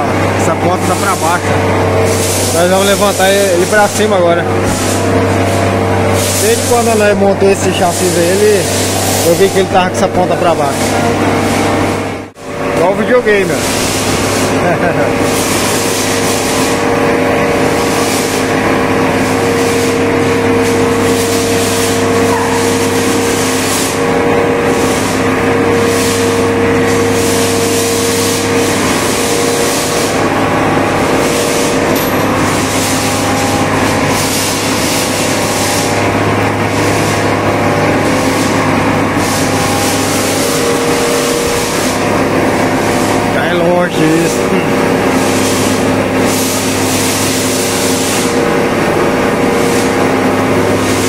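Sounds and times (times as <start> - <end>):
hydraulic machine drone: 0.0 - 51.0.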